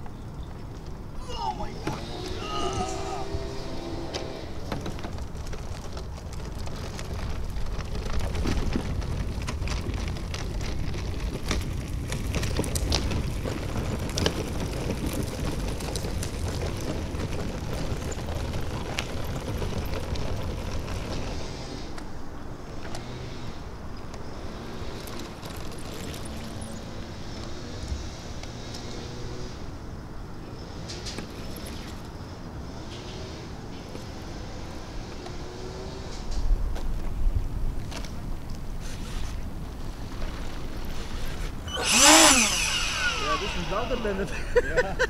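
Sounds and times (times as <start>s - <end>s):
wheels rolling over asphalt: 0.0s - 45.0s.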